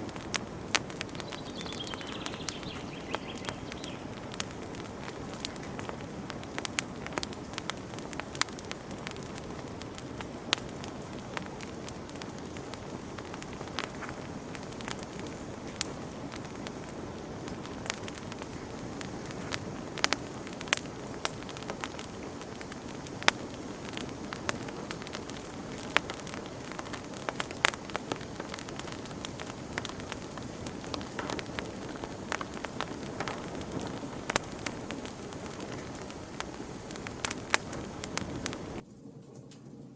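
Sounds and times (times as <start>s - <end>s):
burning wood popping and snapping: 0.0s - 39.9s
rush of campfire flames: 0.0s - 39.9s.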